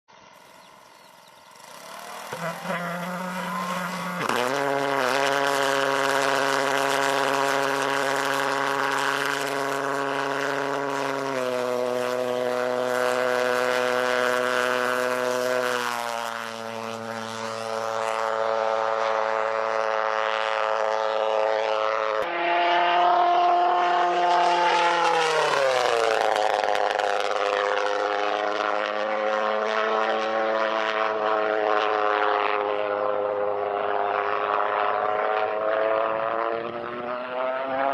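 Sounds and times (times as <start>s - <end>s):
pulse jet engine buzzing: 0.1s - 37.4s.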